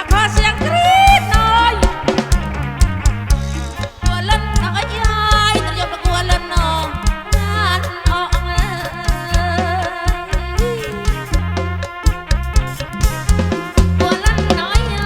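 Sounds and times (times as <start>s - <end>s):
drum beat: 0.0s - 15.0s
pulsing bass: 0.0s - 15.0s
wavering melody line: 0.0s - 15.0s.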